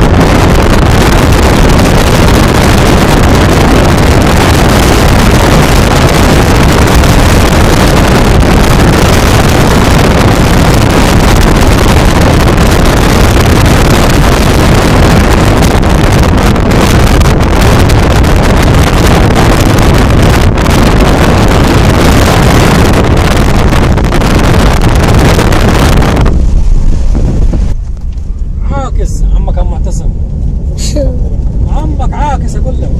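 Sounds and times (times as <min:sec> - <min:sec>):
motorboat running: 0:00.0 - 0:28.6
wind buffeting microphone: 0:00.0 - 0:32.9.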